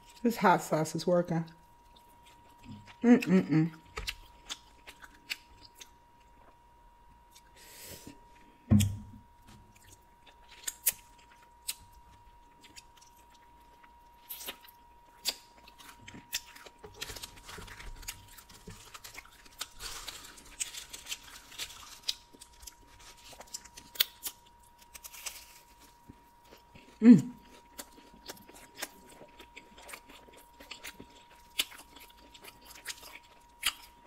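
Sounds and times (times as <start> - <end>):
crunching and chewing pizza: 1.4 - 34.0.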